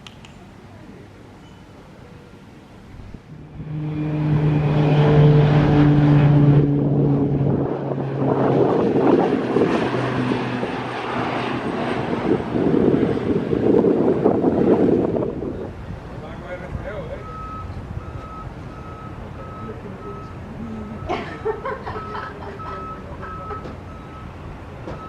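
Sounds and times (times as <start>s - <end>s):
aircraft engine hum and rush: 0.0s - 25.0s.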